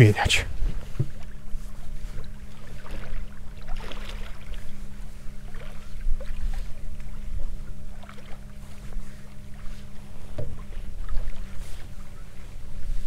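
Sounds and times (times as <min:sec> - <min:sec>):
boat motor humming: 0:00.0 - 0:13.0
water splashing against hull: 0:00.4 - 0:13.0.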